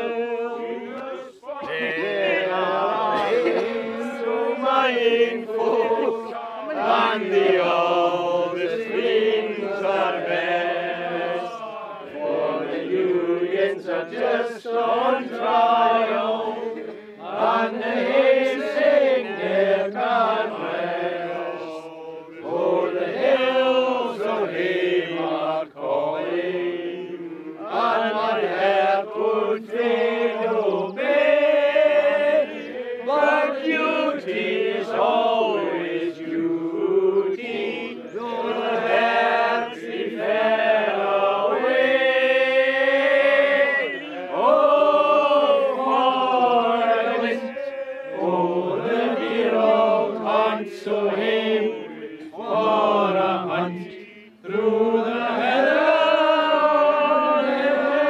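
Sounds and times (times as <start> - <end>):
men singing unaccompanied: 0.0 - 58.0.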